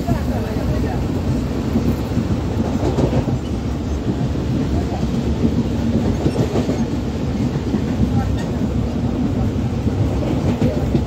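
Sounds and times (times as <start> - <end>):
rail joint clacks: 0.0 - 11.0
train wheels on rails: 0.0 - 11.0.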